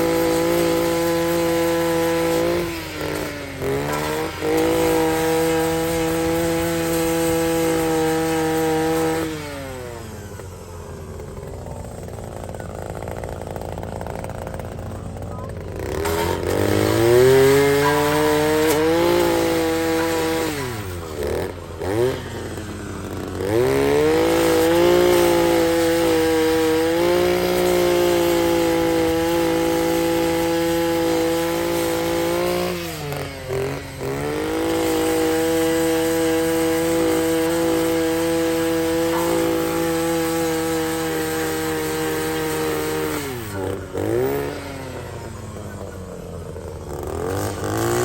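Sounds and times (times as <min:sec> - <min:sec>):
handheld grinder whining: 0:00.0 - 0:48.0.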